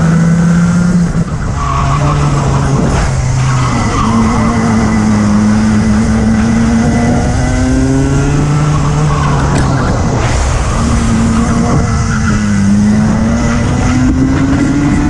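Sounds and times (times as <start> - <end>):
racing kart engine: 0.0 - 15.0.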